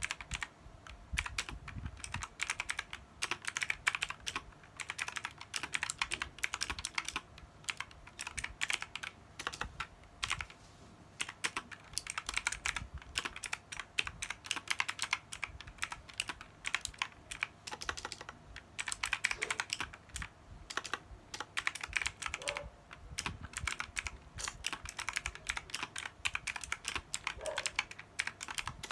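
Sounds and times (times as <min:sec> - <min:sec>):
fast typing on computer keyboard: 0:00.0 - 0:10.6, 0:11.2 - 0:28.9.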